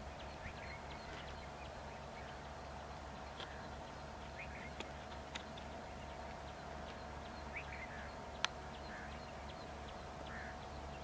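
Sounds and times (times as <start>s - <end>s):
birds chirping: 0.0s - 11.0s
harsh bird calls: 0.0s - 11.0s
steady background hum: 0.0s - 11.0s.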